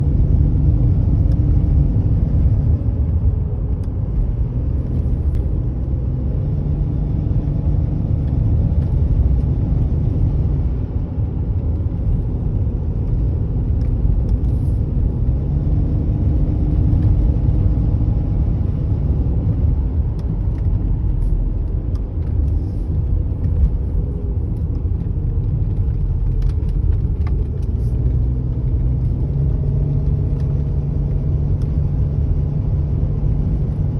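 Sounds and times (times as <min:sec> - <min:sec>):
car engine running under load: 0:00.0 - 0:33.9.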